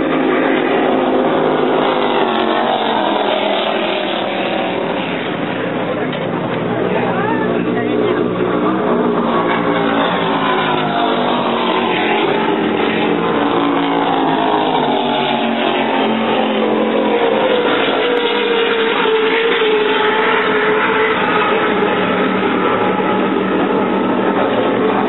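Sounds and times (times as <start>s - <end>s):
powerboat engines passing: 0.0s - 25.0s.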